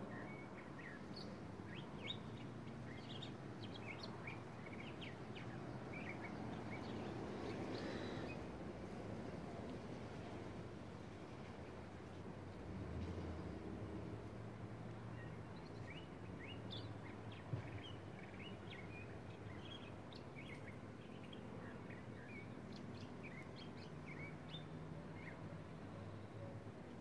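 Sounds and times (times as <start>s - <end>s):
small birds chirping: 0.0s - 9.8s, 14.2s - 26.4s.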